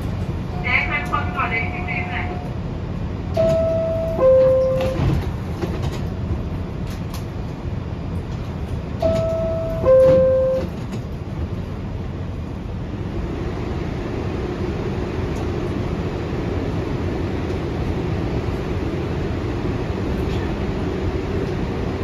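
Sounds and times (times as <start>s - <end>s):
subway car rumble: 0.0s - 22.0s.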